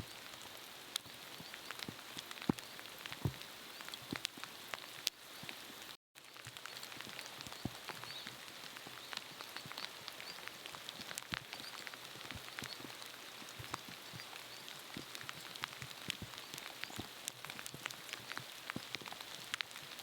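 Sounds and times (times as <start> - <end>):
light rain falling: 0.0 - 20.0.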